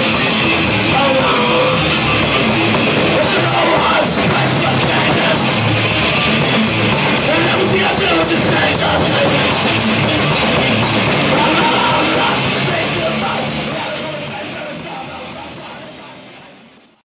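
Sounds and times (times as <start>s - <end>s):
person singing: 0.0s - 16.7s
punk rock band playing live: 0.0s - 17.0s.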